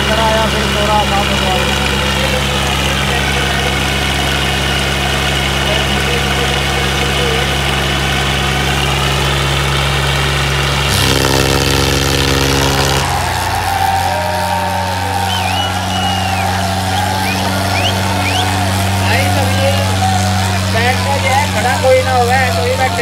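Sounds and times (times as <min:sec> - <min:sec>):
diesel tractor engines running: 0:00.0 - 0:23.0.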